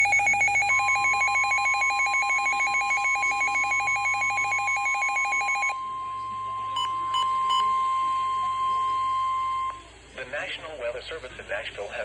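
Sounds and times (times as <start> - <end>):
electronic warbling beep: 0.0 - 9.8
steady alert tone: 0.0 - 9.8.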